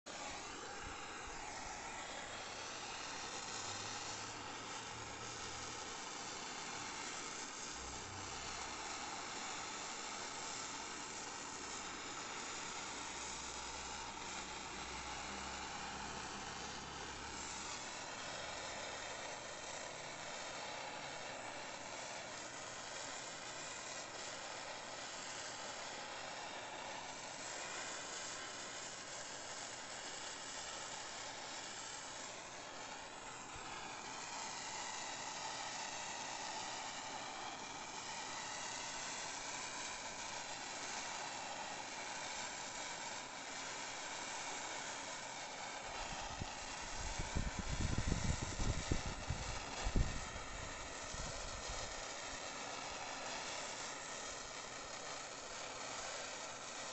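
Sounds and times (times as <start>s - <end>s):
blowtorch hissing: 0.1s - 56.9s.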